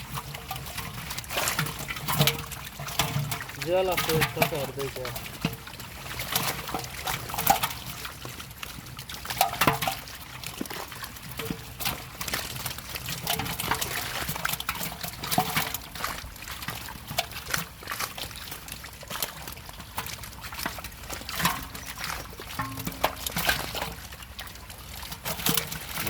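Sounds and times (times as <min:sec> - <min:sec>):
pond water splashing: 0:00.0 - 0:26.0.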